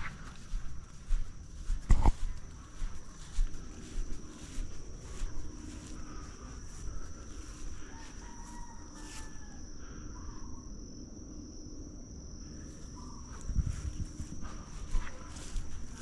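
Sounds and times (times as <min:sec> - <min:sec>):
low wind rumble: 0:00.0 - 0:07.9, 0:09.8 - 0:16.0
insects singing: 0:00.0 - 0:16.0.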